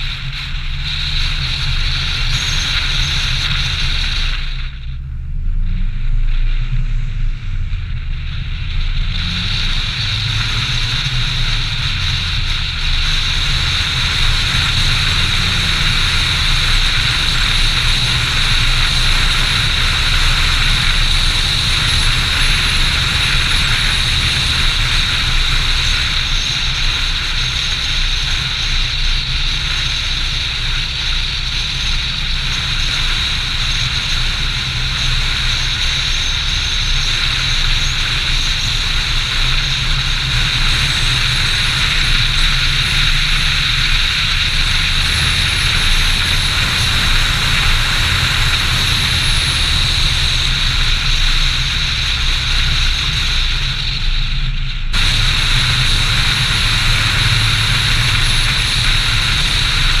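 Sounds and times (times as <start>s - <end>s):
car engine and tyre rumble: 0.0s - 60.0s
wind and road noise hiss: 0.0s - 60.0s.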